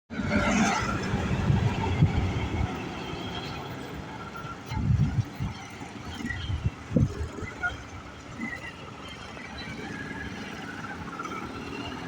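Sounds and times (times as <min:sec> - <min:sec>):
diesel truck engine rumble: 0:00.1 - 0:12.0.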